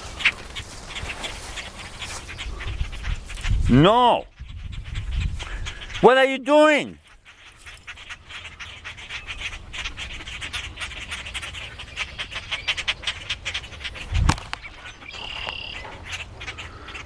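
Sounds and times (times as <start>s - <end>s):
baby birds peeping: 0.0s - 17.0s.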